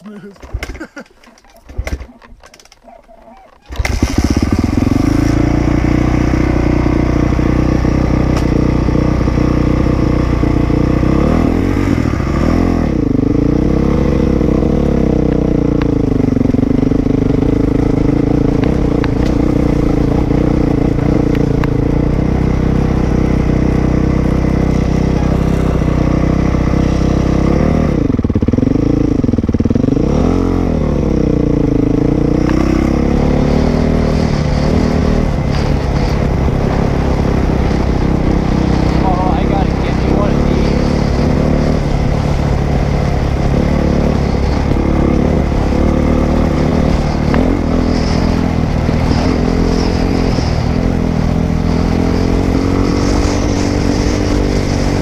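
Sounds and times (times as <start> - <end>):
dirt bike engine revving: 3.6 - 55.0.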